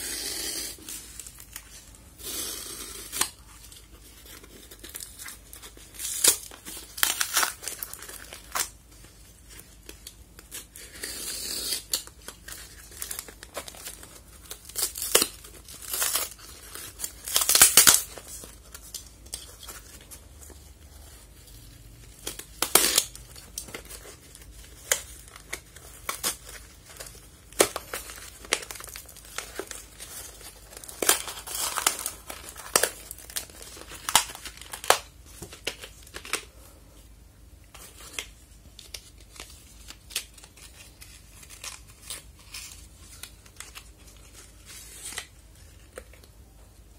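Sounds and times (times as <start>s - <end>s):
cardboard and packing tape ripping: 0.0s - 8.8s, 9.6s - 20.0s, 22.1s - 36.4s, 37.9s - 43.9s.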